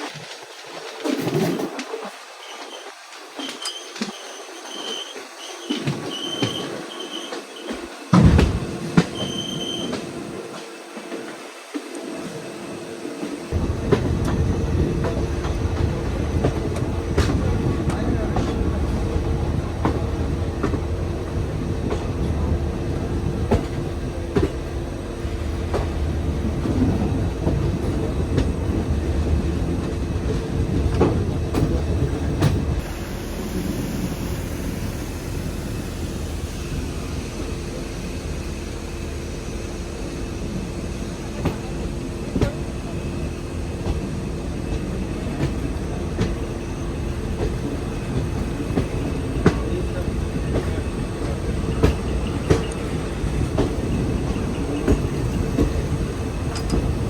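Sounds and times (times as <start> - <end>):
passenger train rumbling: 0.0 - 57.0.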